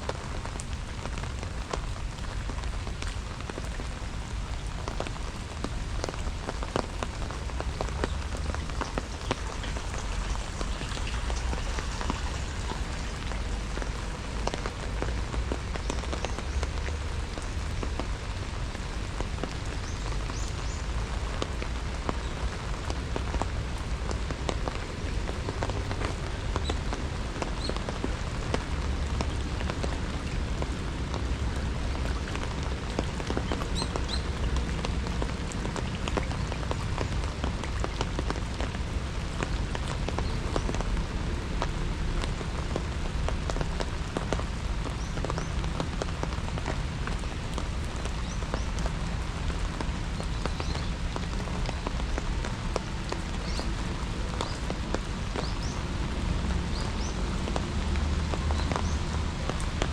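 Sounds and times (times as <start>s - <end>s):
low rain rumble: 0.0s - 59.9s
rain drops tapping: 0.0s - 59.9s.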